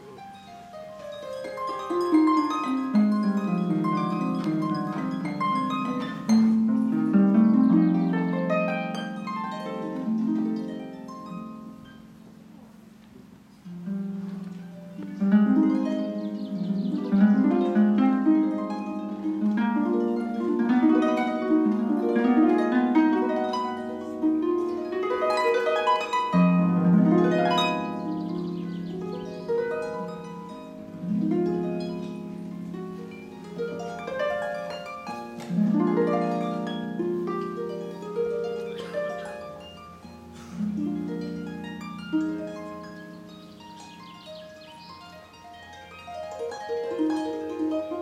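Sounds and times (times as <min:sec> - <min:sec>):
harp playing: 0:00.0 - 0:48.0.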